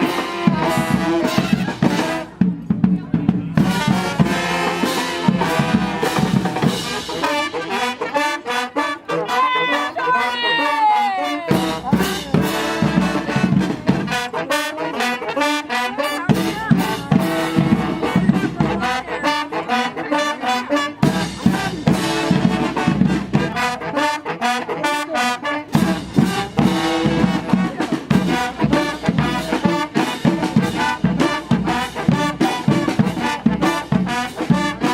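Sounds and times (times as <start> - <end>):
trumpets and trombones: 0.0 - 2.8, 3.4 - 34.9
steady drum beat: 0.0 - 8.3, 11.5 - 34.9.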